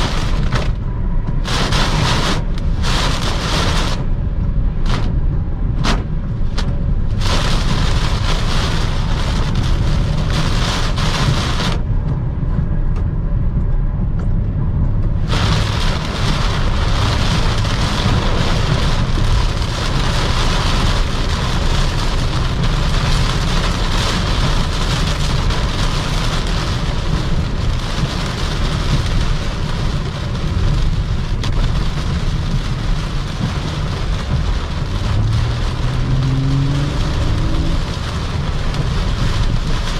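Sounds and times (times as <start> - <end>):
rain hissing on car: 0.0 - 12.5, 15.0 - 39.9
tyres and wind rumbling: 0.0 - 39.9.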